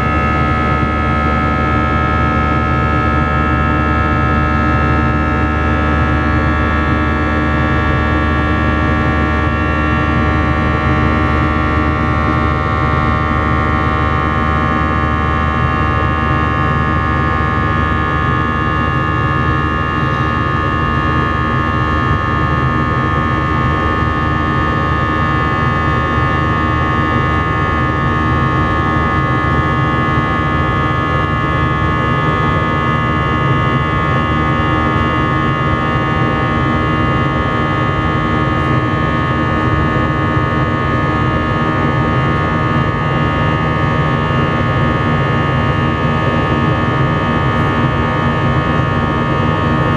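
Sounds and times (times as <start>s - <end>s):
jet engines in cabin: 0.0s - 49.9s.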